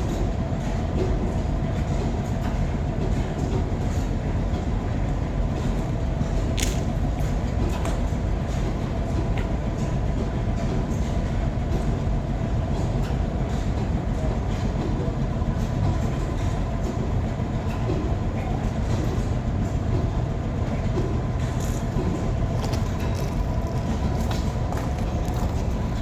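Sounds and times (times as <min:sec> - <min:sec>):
engine running: 0:00.4 - 0:26.0.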